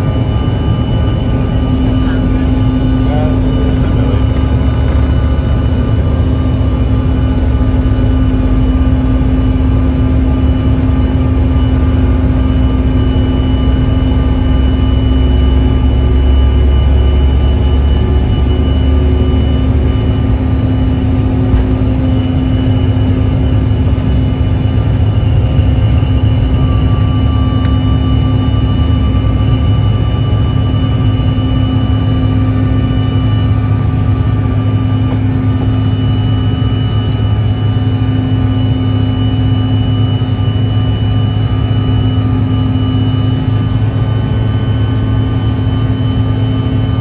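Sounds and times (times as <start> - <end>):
jet engines roaring in cabin: 0.0 - 47.0.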